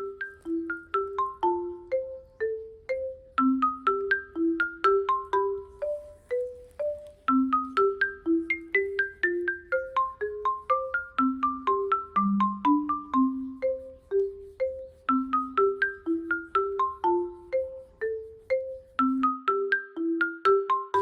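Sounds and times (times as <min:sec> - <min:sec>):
marimba-like melody: 0:00.0 - 0:21.0.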